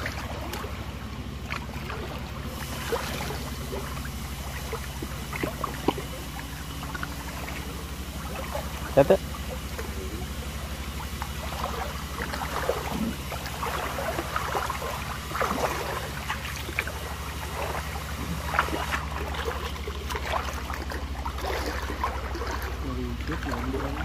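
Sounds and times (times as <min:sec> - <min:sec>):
steady low rumble: 0:00.0 - 0:24.0
water splashing and sloshing: 0:00.0 - 0:24.0.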